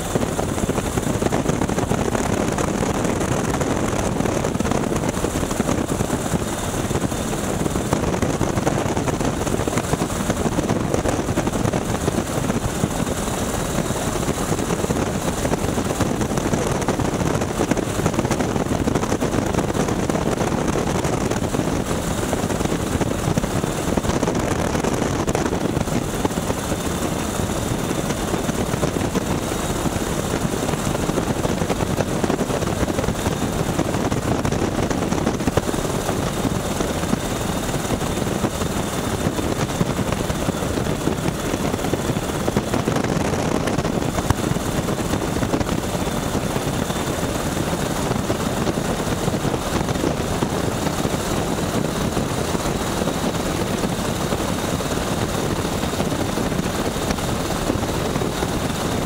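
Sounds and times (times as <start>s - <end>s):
biplane radial engine and propeller: 0.0s - 59.0s
rushing wind: 0.0s - 59.0s.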